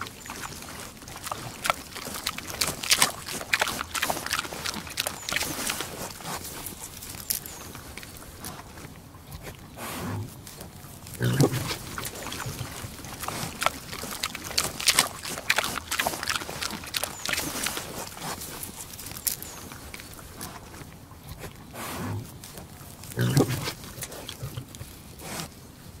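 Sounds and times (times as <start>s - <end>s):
pig grunting: 0.0s - 7.0s, 7.6s - 25.5s
pig munching food: 0.0s - 26.0s.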